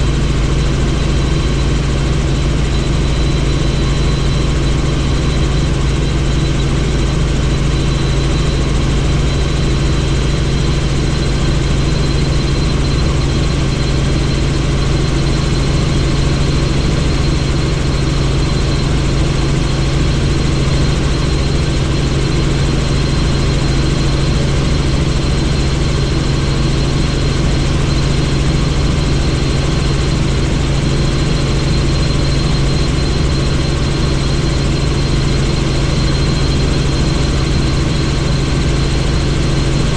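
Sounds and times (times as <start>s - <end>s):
helicopter rotor drone: 0.0s - 39.9s
high turbine whine: 0.0s - 39.9s.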